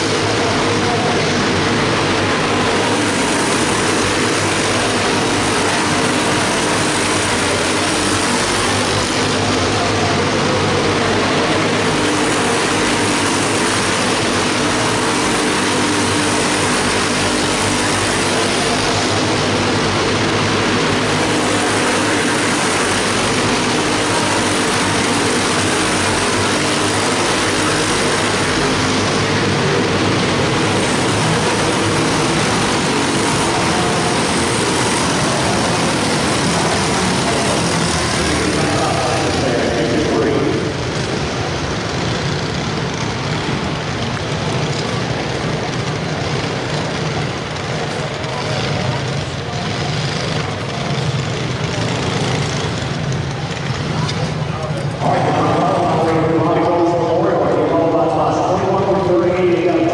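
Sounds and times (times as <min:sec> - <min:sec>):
small race car engines buzzing: 0:00.0 - 0:59.9.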